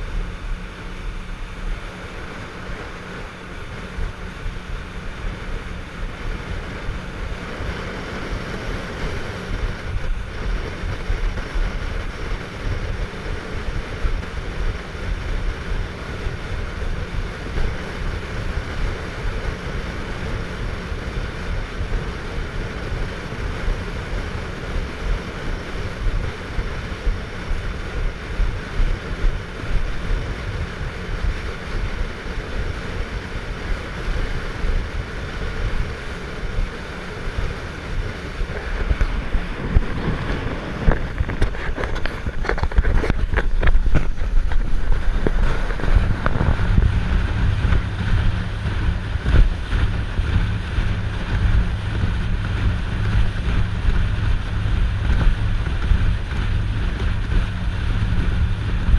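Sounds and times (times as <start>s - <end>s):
motorboat engine: 0.0s - 58.9s
rushing water: 0.0s - 58.9s
wind buffeting microphone: 0.0s - 58.9s.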